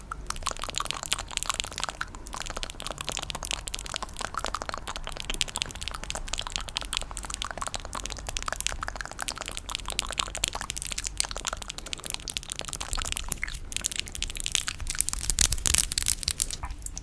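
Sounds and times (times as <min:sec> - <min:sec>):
crisp crackling clicks: 0:00.0 - 0:17.0.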